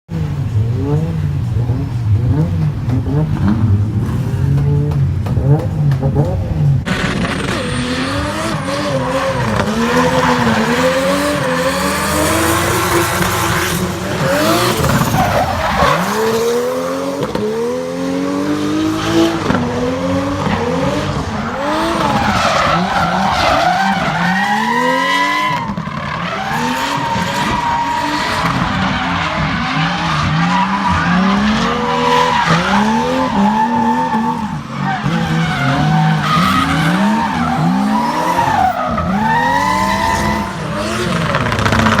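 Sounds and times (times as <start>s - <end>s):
turbocharged engine revving: 0.4s - 42.0s.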